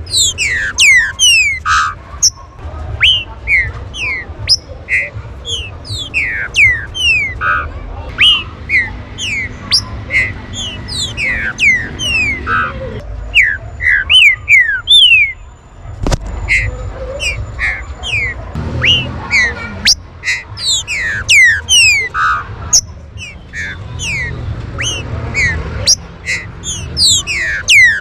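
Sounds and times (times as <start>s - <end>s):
birds whistling and singing: 0.0s - 15.5s, 16.4s - 28.0s.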